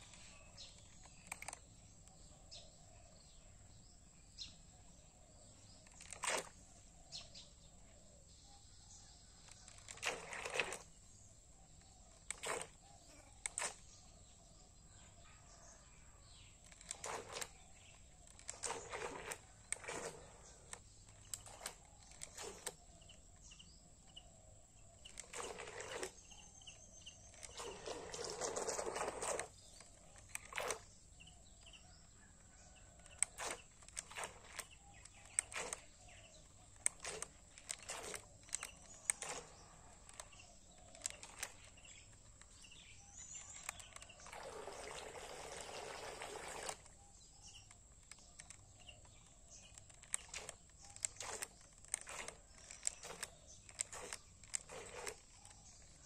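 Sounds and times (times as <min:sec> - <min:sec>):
rustling and clicks: 0:00.0 - 0:02.3, 0:05.5 - 0:08.0, 0:09.3 - 0:14.1, 0:16.4 - 0:23.7, 0:25.0 - 0:44.8, 0:46.5 - 0:56.0
bird chirps: 0:10.8 - 0:56.0.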